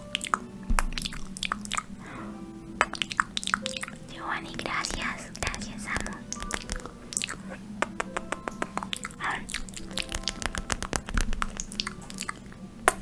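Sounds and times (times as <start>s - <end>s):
sticky tapping: 0.1s - 2.2s, 2.8s - 13.0s.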